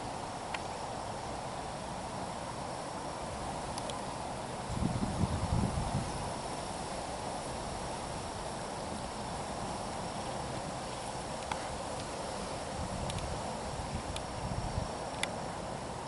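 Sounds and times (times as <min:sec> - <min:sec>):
background hiss: 0:00.0 - 0:16.0
faint high-pitched whine: 0:00.0 - 0:16.0
insect drone: 0:00.0 - 0:16.0.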